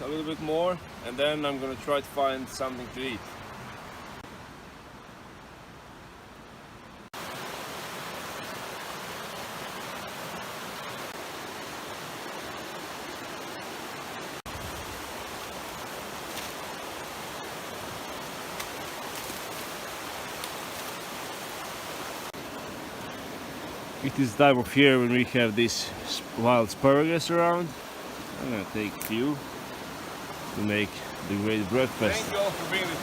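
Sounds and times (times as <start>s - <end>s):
creek rushing: 0.0s - 33.0s.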